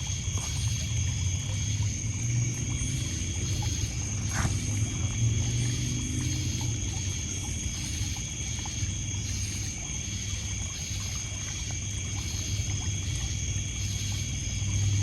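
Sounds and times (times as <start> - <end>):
crickets trilling: 0.0 - 15.0
water lapping on pebbles: 0.0 - 15.0.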